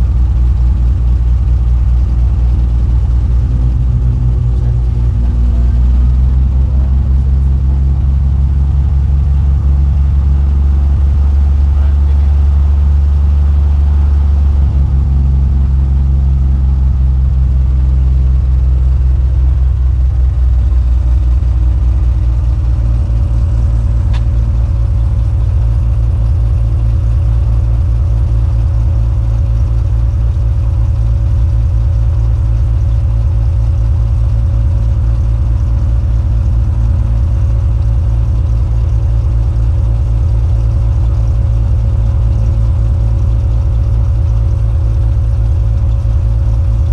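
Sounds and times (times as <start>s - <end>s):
propeller plane engine: 0.0s - 46.9s.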